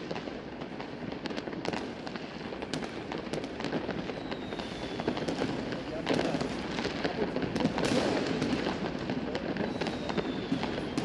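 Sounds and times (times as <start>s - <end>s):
firecracker bangs: 0.0s - 11.0s
fireworks crackling: 0.0s - 11.0s.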